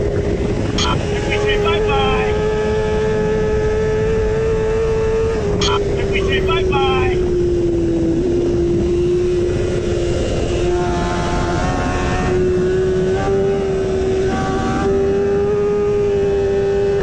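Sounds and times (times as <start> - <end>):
heavy wind rush: 0.0 - 14.8
motorcycle engine revving high: 0.0 - 17.0.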